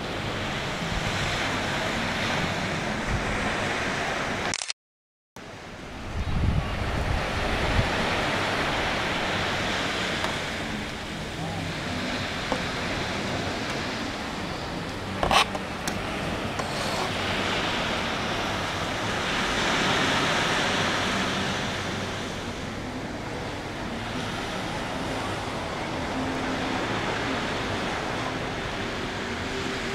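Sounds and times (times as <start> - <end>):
ocean waves washing ashore: 0.0 - 4.5, 5.4 - 29.9.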